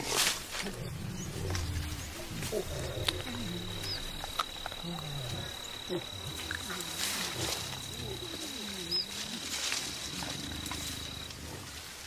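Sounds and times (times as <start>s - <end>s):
gorillas rumbling: 0.0s - 12.0s
high insect drone: 0.8s - 11.8s.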